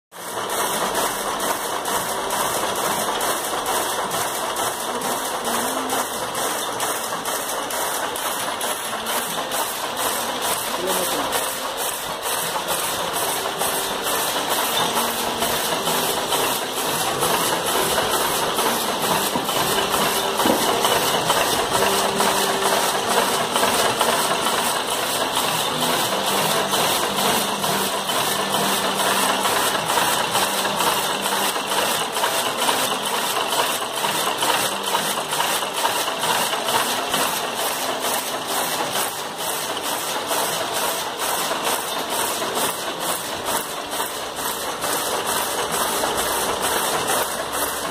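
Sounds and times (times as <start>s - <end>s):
power loom clattering: 0.1s - 47.9s.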